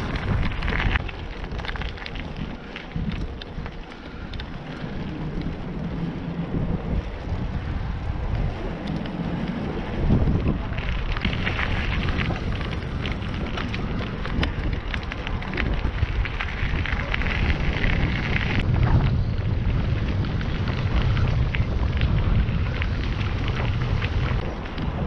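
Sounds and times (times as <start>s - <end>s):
tyres crackling on rough path: 0.0s - 25.0s
wind buffeting microphone: 0.0s - 25.0s.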